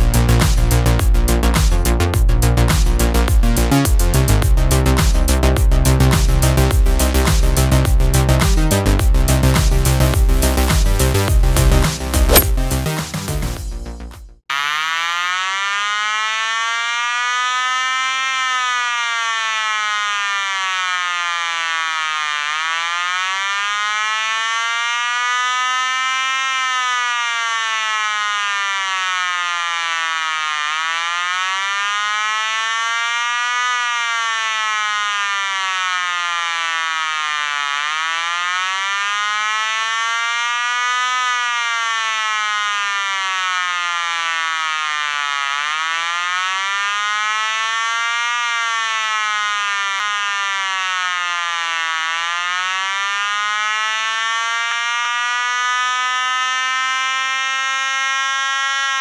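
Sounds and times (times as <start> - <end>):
electronic siren wailing: 0.0 - 13.2, 14.5 - 59.0.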